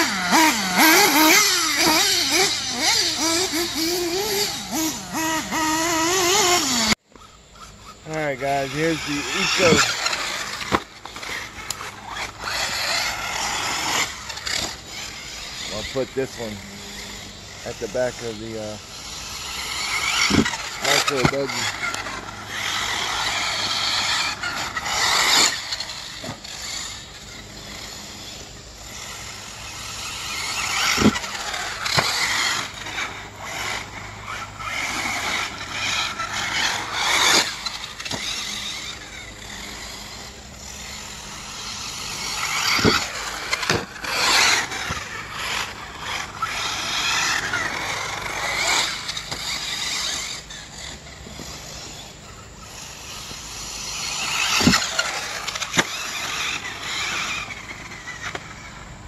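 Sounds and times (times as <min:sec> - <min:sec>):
rc buggy motor revving: 0:00.0 - 0:59.0.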